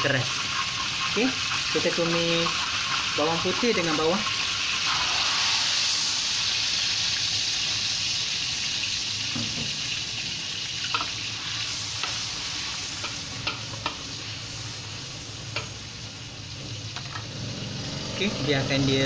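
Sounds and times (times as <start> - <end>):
garlic and onion sizzling in oil: 0.0 - 19.0.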